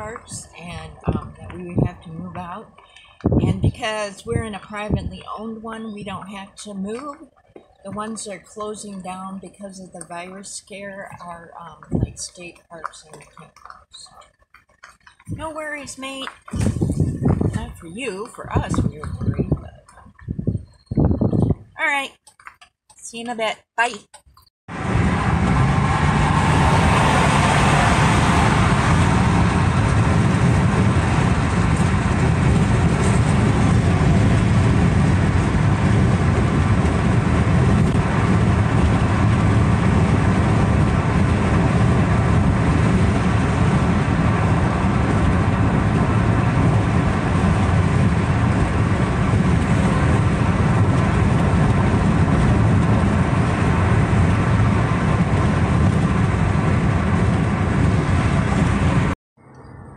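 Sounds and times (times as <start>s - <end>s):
road noise inside car cabin: 0.0s - 7.2s, 7.9s - 14.2s, 15.2s - 21.6s, 24.7s - 59.9s
wind noise at highway speed: 0.0s - 21.8s, 24.7s - 59.9s.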